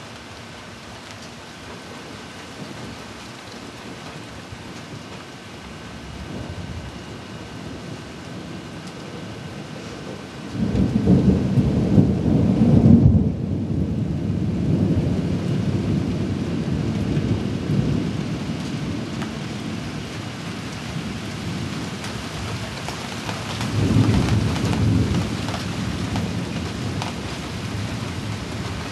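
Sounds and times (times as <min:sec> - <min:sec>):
steady rain: 0:00.0 - 0:28.9
thunder rumbling: 0:01.7 - 0:28.9.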